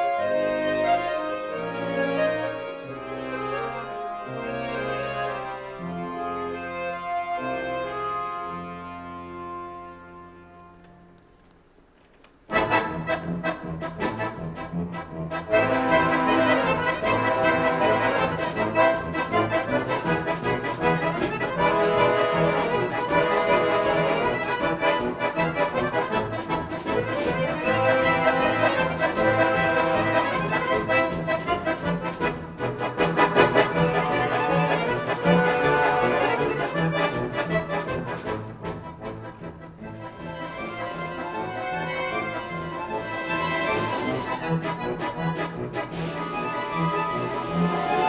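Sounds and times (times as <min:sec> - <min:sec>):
accordion orchestra playing: 0:00.0 - 0:11.3, 0:12.4 - 0:48.0.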